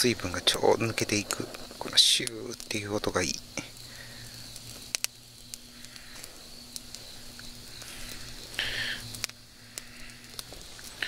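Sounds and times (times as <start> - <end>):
campfire hissing: 0.0 - 11.0
fire crackles: 0.0 - 11.0.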